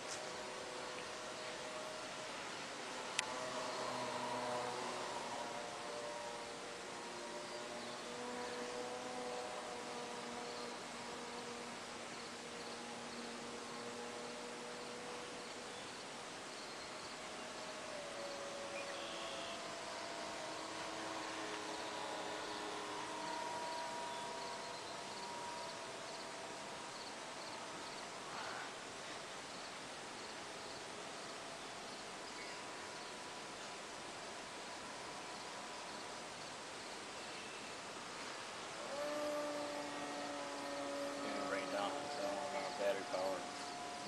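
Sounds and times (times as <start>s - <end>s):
distant model plane motor whine: 0.0s - 44.0s.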